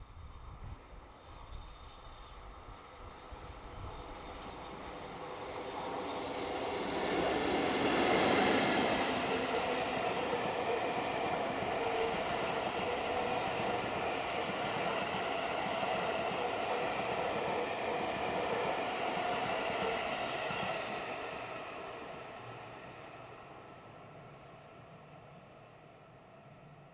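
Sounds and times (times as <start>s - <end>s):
electric locomotive hauling train: 0.0s - 26.9s.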